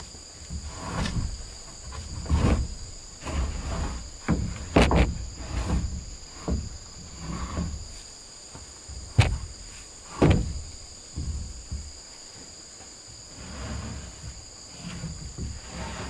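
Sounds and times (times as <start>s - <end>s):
knocks and thumps of wood: 0.0s - 13.3s, 14.0s - 16.0s
high insect trill: 0.0s - 16.0s.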